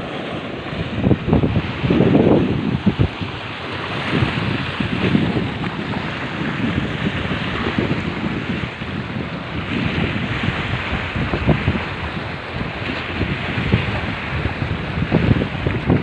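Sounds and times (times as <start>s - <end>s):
water rushing and splashing: 0.0s - 16.0s
wind buffeting microphone: 0.0s - 16.0s.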